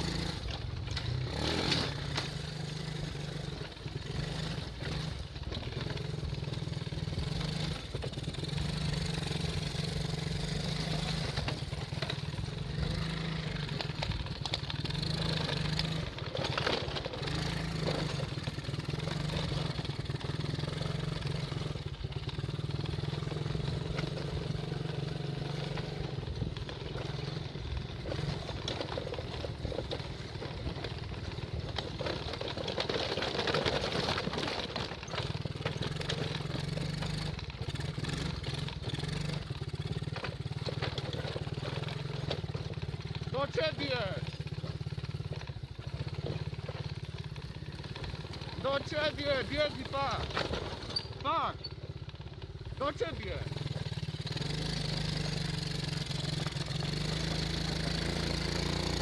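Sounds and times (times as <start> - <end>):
small off-road engine running: 0.0 - 59.0.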